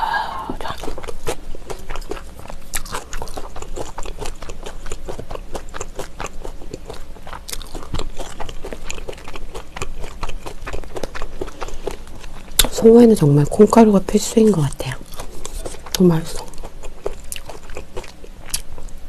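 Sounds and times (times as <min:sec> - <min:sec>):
close-miked chewing: 0:00.5 - 0:19.0.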